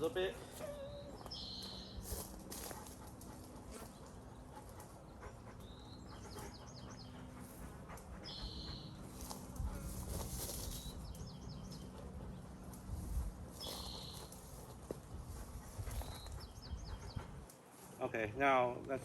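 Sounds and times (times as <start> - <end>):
songbird singing: 0.0 - 2.3, 3.8 - 9.5, 10.1 - 17.5
steady low hum: 0.0 - 19.0.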